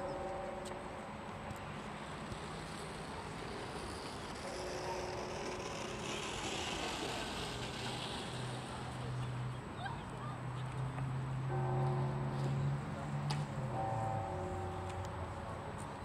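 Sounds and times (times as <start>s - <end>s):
distant traffic rush: 0.0s - 16.0s.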